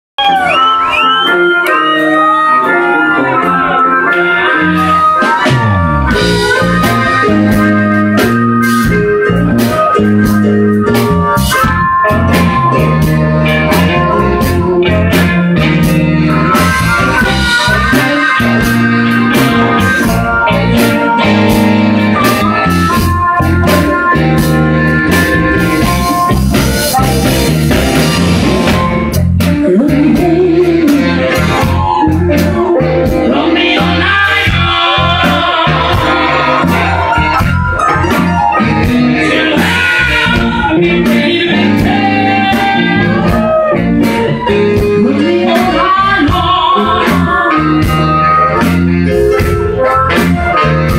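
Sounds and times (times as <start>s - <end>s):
bass guitar: 0.2s - 50.9s
drum kit: 0.2s - 50.9s
electric guitar: 0.2s - 50.9s
harmonica: 0.2s - 50.9s.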